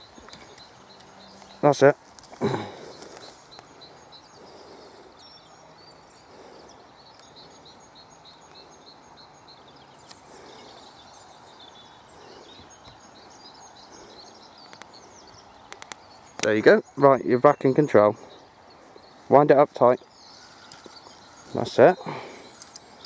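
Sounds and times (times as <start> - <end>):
birds singing faintly: 0.0 - 23.0.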